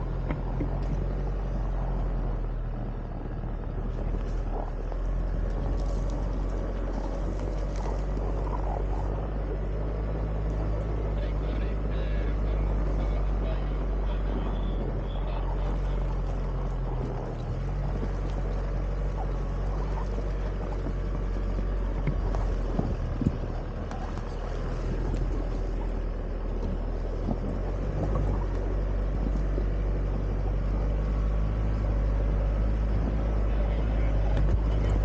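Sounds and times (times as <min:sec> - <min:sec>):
car engine running at low revs: 0:00.0 - 0:35.0.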